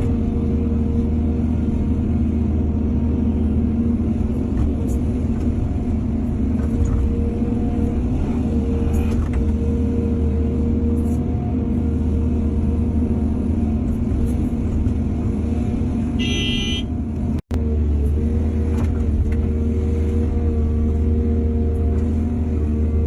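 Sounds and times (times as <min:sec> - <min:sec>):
diesel engine drone: 0:00.0 - 0:23.0.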